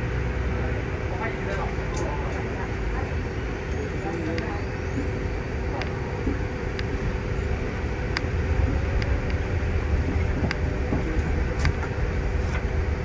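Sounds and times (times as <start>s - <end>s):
bus engine and road rumble: 0.0s - 13.0s
faint hum: 0.0s - 13.0s.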